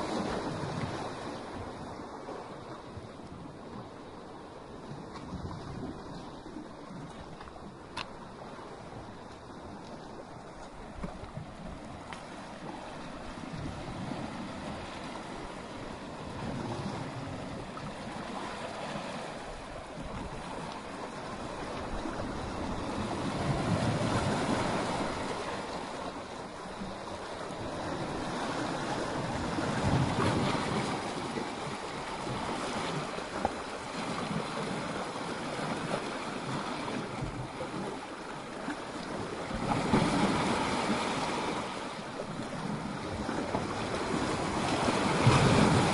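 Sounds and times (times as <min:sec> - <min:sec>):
waves breaking over rocks: 0:00.0 - 0:45.9
waves washing up a beach: 0:00.0 - 0:45.9.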